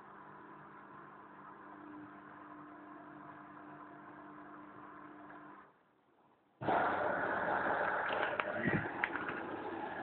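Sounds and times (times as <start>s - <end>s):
washing machine hum and whir: 0.0s - 10.0s.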